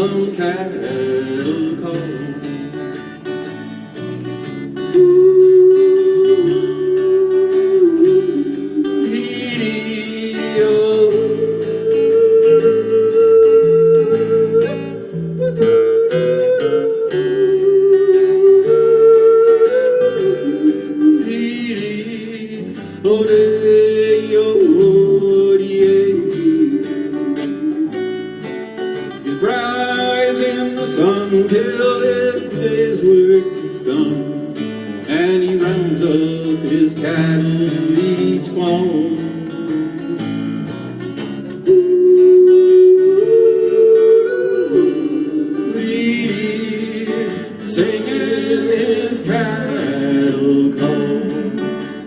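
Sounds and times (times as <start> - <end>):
acoustic guitar: 0.0 - 52.0
yodel-like wordless singing: 0.0 - 52.0.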